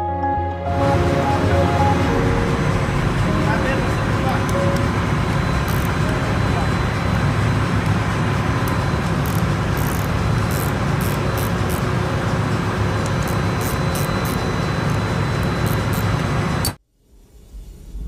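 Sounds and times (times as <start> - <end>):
engine room machinery din: 0.7 - 18.0.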